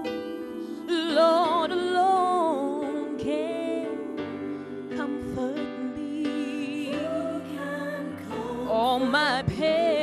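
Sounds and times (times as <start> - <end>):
woman singing gospel: 0.0 - 10.0.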